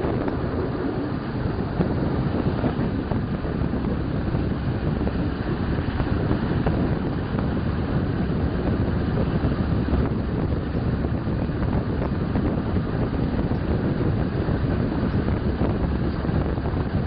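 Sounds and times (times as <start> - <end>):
passenger train rumbling: 0.0 - 17.0
wind noise: 0.0 - 17.0.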